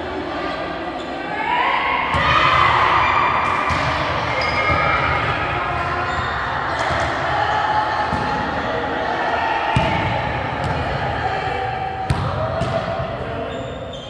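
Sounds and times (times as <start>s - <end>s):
voices in echoing hall: 0.0s - 14.0s.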